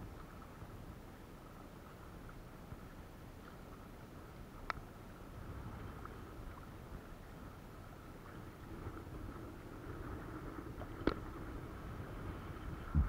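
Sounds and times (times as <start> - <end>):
faint low rumble: 0.0 - 13.0.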